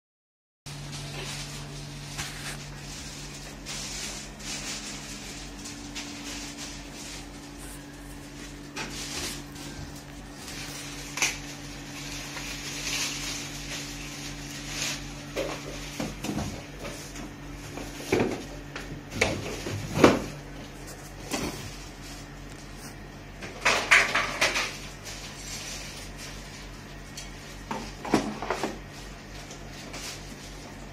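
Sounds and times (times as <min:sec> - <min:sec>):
steady low hum: 0:00.7 - 0:30.9.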